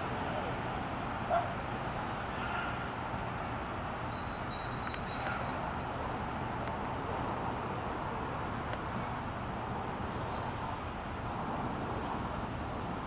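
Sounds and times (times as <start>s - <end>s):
outdoor background hiss and rumble: 0.0s - 13.0s.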